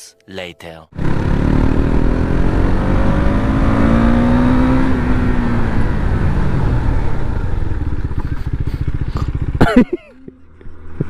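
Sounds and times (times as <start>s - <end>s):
motorcycle engine revving: 1.0s - 11.0s.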